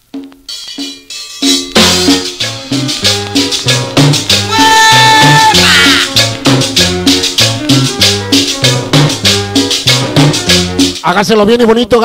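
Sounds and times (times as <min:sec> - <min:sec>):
cumbia music over sound system: 0:00.0 - 0:11.6.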